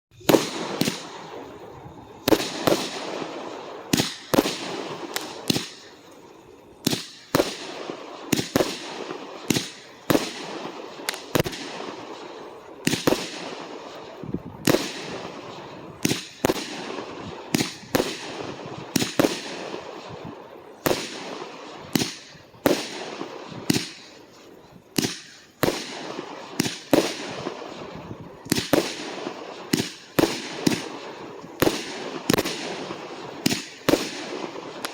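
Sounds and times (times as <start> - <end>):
fireworks bangs: 0.1 - 34.9
fireworks crackling hiss: 0.1 - 34.9.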